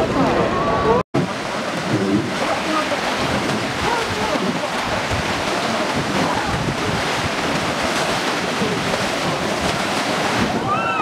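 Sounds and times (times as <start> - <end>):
whitewater rapids rushing: 0.0 - 11.0
wind buffeting microphone: 1.2 - 11.0.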